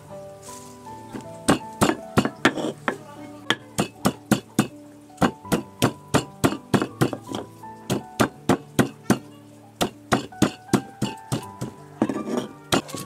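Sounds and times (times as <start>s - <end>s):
soft background music: 0.0s - 13.0s
stone pestle pounding in mortar: 1.4s - 13.0s.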